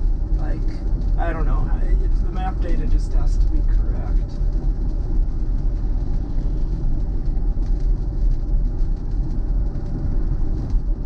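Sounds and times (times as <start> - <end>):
heavy rain: 0.0 - 11.0
road and tyre rumble in car cabin: 0.0 - 11.0.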